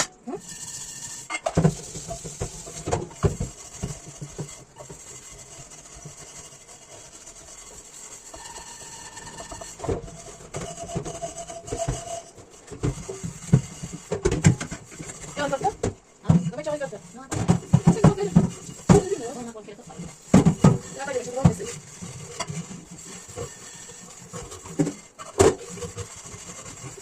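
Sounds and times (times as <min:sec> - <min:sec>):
scrubbing dishes: 0:00.0 - 0:27.0.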